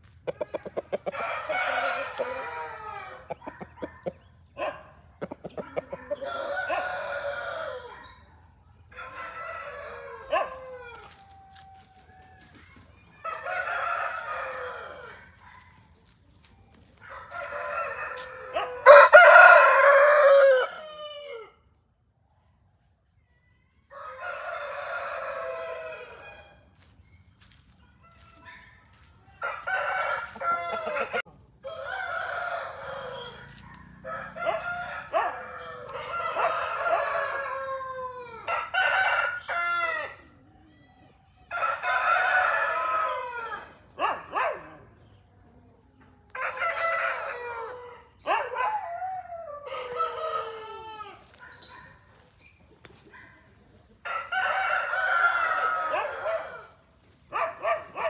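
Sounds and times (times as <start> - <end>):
roosters crowing: 0.1 - 15.9, 16.9 - 21.7, 23.7 - 40.5, 41.4 - 45.4, 46.2 - 58.0.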